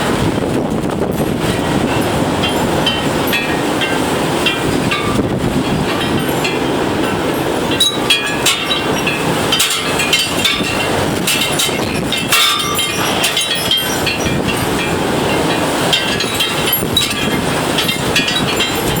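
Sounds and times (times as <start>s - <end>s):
wind buffeting microphone: 0.0s - 19.0s
clattering and rattling: 1.2s - 19.0s.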